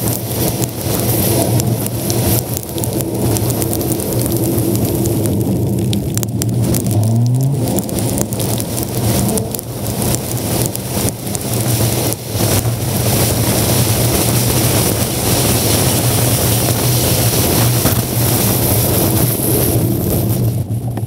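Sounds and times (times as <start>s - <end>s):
car engine and tyre drone: 0.0s - 21.0s
crackles: 0.0s - 21.0s.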